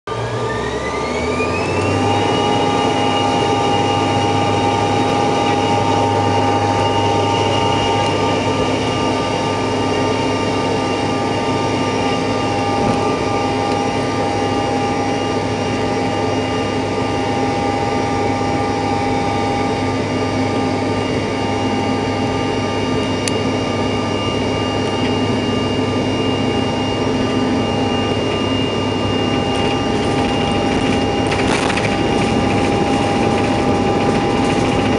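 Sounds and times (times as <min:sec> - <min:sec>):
jet engines spooling up: 0:00.1 - 0:34.9.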